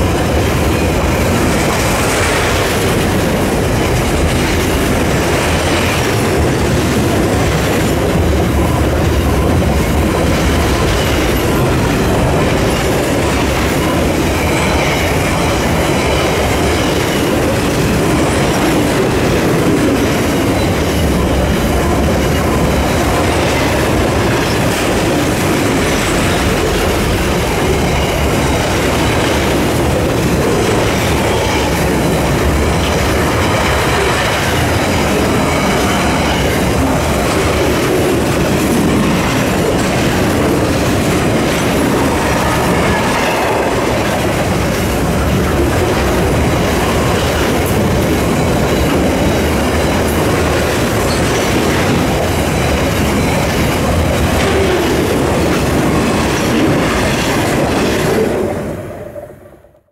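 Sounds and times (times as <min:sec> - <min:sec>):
wheels clicking on rails: 0:00.0 - 0:59.0
freight train rolling past: 0:00.0 - 0:59.9.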